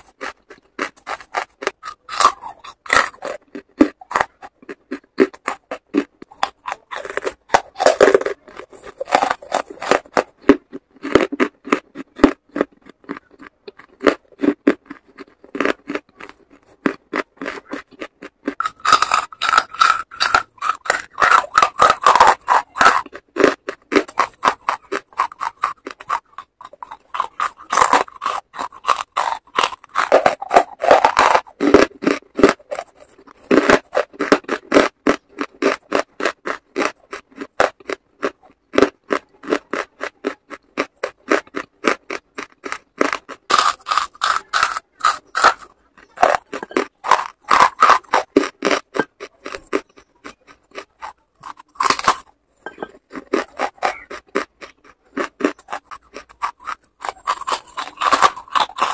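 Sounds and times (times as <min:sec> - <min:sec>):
charcoal crunching while chewed: 0:00.0 - 0:58.9.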